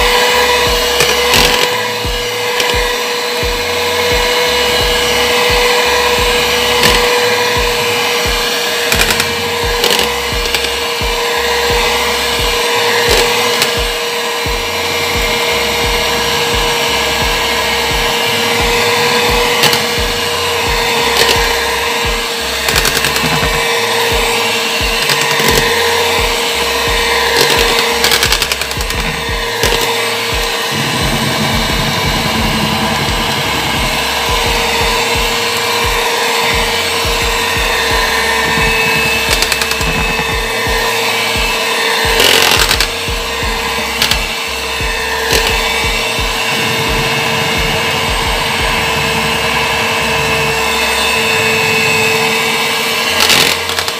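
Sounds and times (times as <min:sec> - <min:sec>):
electric hand mixer running: 0:00.0 - 0:53.9.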